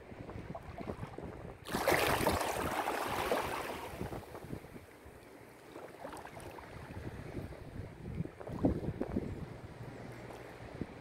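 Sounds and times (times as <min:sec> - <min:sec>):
wind buffeting microphone: 0:00.0 - 0:05.1, 0:06.2 - 0:11.0.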